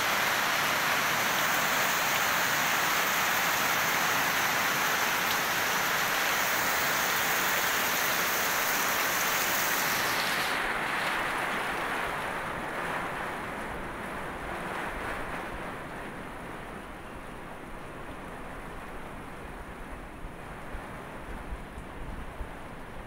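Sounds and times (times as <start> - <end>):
heavy rain on plants: 0.0 - 23.0.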